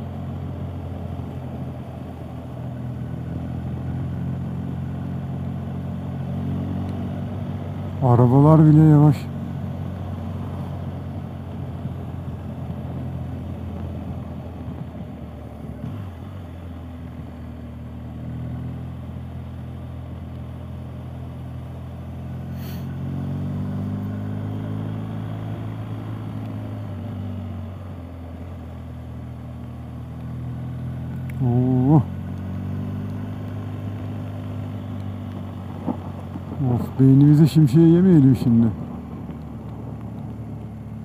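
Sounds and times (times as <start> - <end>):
motorcycle engine running: 0.0 - 41.0
wind and road noise: 0.0 - 41.0.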